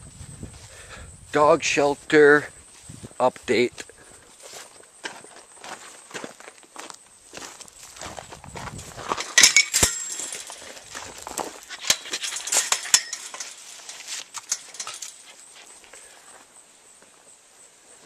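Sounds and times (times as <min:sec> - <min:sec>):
footsteps crunching on gravel: 0:00.2 - 0:16.5.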